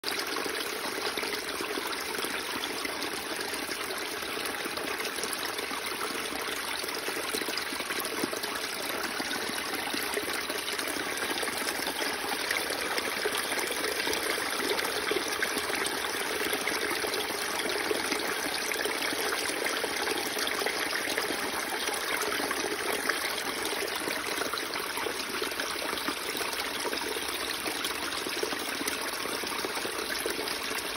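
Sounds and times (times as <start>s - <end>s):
water trickling and splashing on stones: 5.3s - 30.9s.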